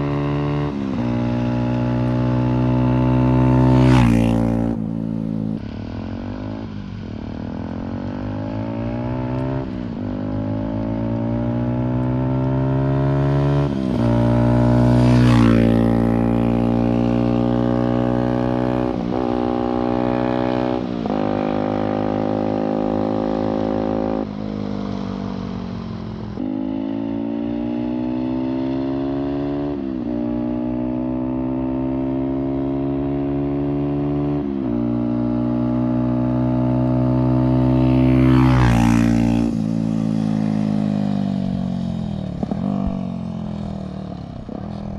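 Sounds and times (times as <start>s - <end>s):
motorcycle engine shifting gears: 7.6s - 44.9s.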